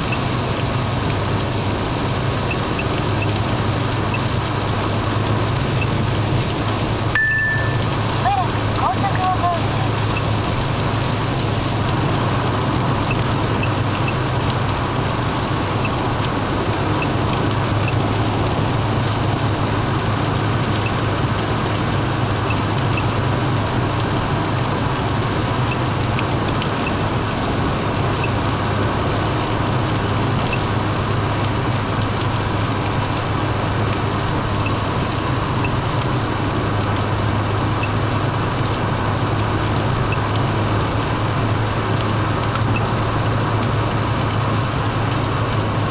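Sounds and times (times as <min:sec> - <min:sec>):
car engine drone: 0:00.0 - 0:45.9.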